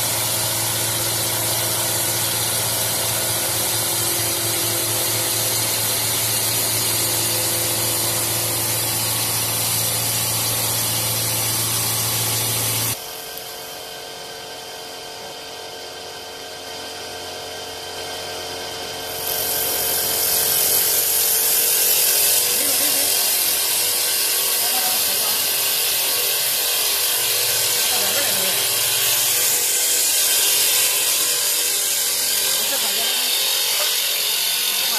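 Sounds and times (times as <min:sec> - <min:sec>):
wood lathe cutting: 0:00.0 - 0:13.0, 0:16.3 - 0:34.9.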